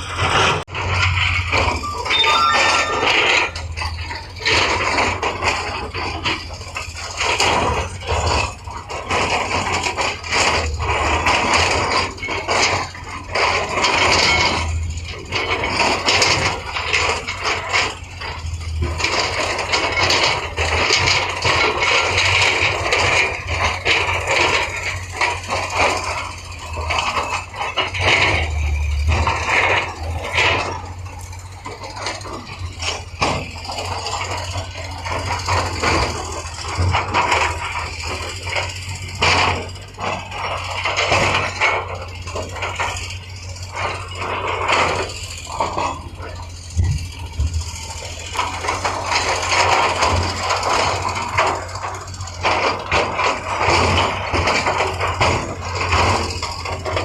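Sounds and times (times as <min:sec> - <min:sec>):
machinery engine running low: 0:00.0 - 0:57.0
scraping and rattling: 0:00.0 - 0:57.0.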